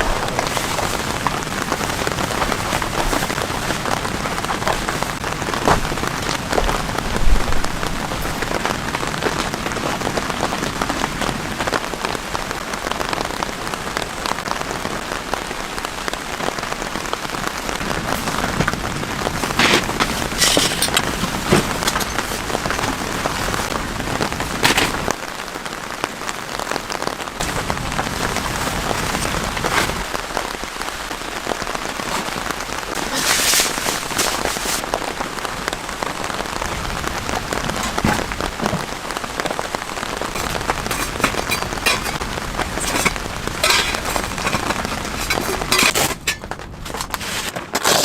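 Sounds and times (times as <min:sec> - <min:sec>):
rain pattering: 0:00.0 - 0:48.0.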